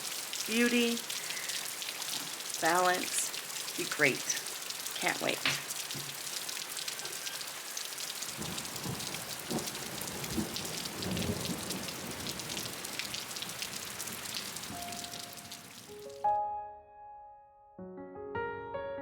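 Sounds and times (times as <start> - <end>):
heavy rain pattering: 0.0 - 16.0.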